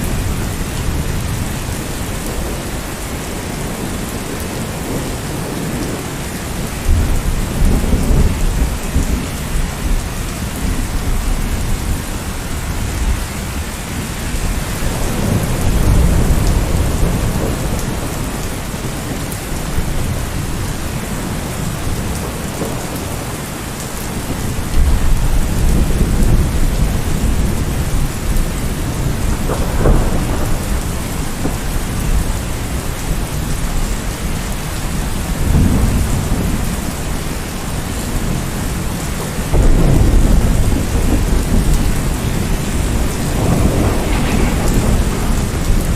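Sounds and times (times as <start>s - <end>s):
heavy rain: 0.0s - 45.9s
low thunder rumbles: 0.0s - 45.9s.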